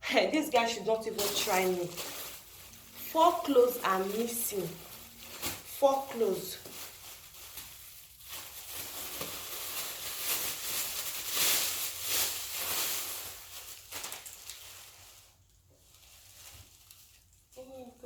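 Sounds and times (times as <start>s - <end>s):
clothes rustling: 0.3s - 17.6s.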